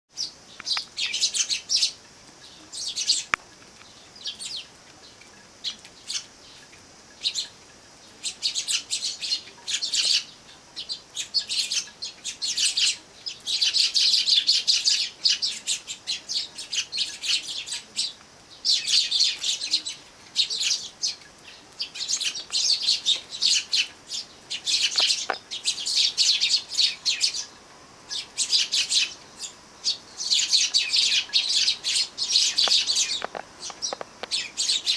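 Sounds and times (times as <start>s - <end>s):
sparrows chirping: 0.1s - 34.9s.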